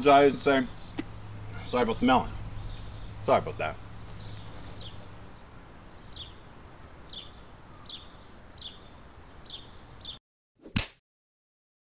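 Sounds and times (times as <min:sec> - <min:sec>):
faint outdoor background noise: 0:00.0 - 0:10.2.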